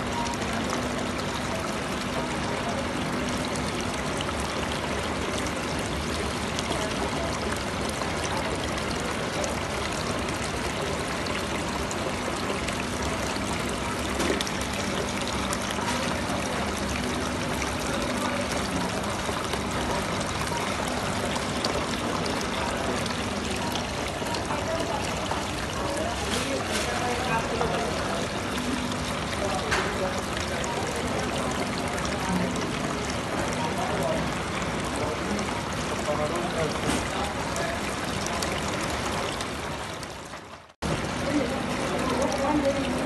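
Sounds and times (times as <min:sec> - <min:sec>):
fountain water trickling: 0:00.0 - 0:43.0.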